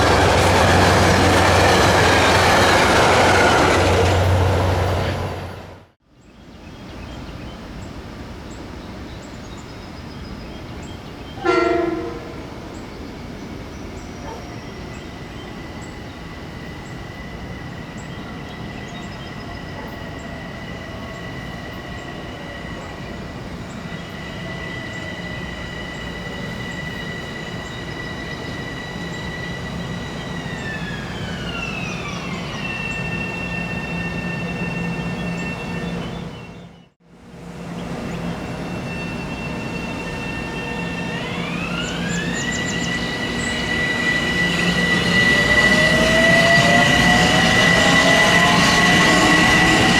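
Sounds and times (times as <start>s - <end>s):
train traction motors whining: 0.0s - 5.9s, 11.4s - 49.9s
train wheels rumbling on track: 0.0s - 6.0s, 10.6s - 49.9s.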